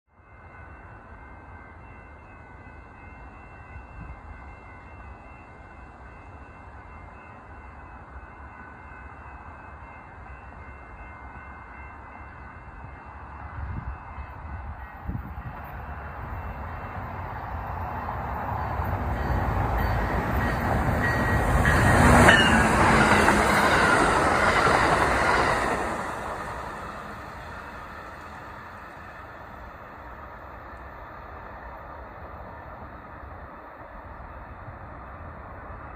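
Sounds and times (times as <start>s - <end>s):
train passing on rails: 0.1s - 35.9s.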